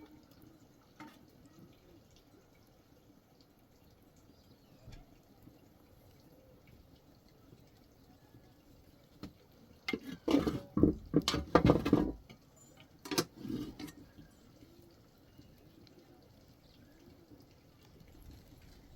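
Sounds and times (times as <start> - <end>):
water splashing and sloshing: 3.1 - 18.9.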